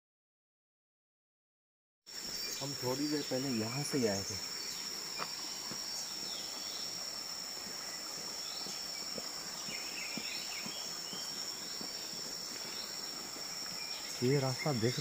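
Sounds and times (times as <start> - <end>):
high-pitched insect chorus: 2.1 - 15.0.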